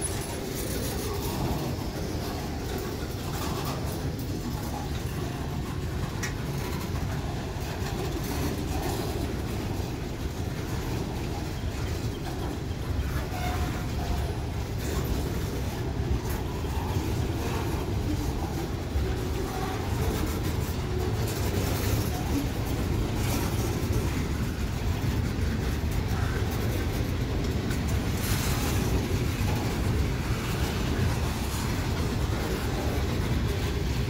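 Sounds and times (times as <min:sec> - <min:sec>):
freight train rumbling past: 0:00.0 - 0:34.0
wheels clicking over track: 0:00.0 - 0:34.0.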